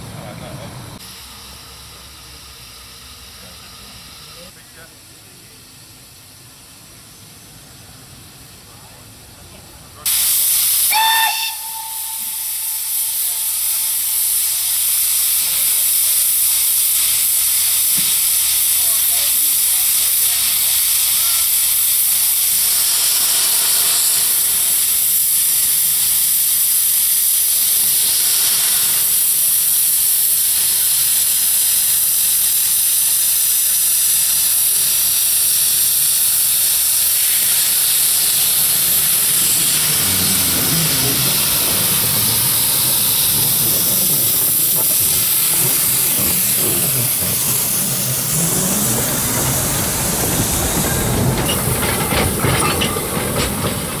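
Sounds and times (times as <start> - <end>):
train rumbling: 0.0 - 4.9, 6.6 - 54.0
steam hissing from locomotive: 0.0 - 54.0.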